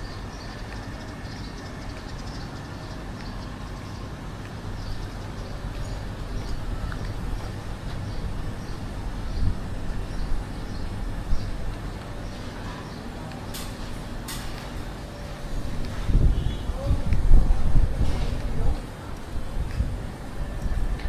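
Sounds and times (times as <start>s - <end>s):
distant traffic rumble: 0.0s - 21.0s.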